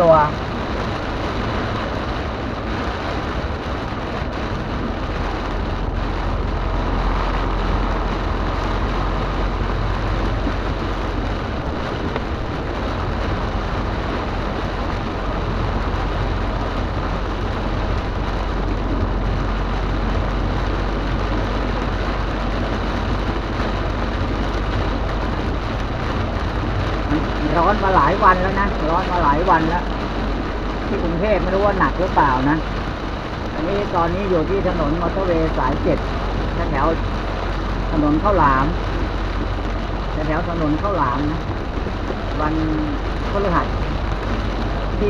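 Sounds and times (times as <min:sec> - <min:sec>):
heavy rain on car roof: 0:00.0 - 0:45.0
road and tyre rumble: 0:00.0 - 0:45.0.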